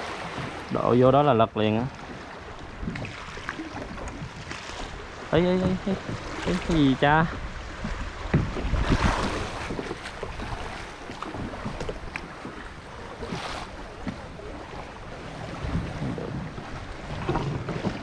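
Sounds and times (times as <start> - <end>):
small waves lapping against a hull: 0.0 - 18.0
wind buffeting the microphone: 2.0 - 18.0.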